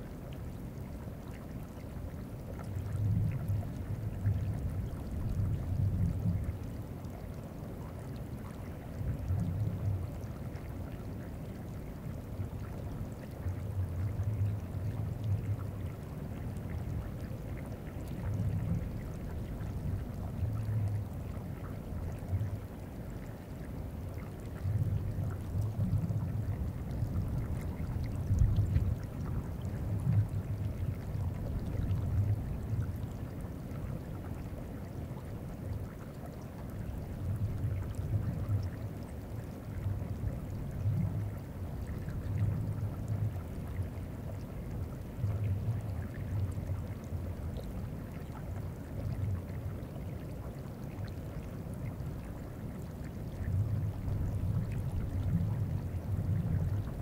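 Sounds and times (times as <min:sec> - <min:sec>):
meltwater trickling: 0:00.4 - 0:57.0.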